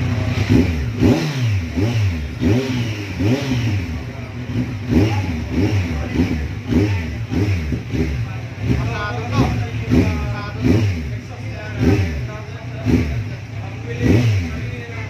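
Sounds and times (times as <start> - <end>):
engine idling: 0.0 - 15.0
motorcycle engine revving: 0.0 - 15.0.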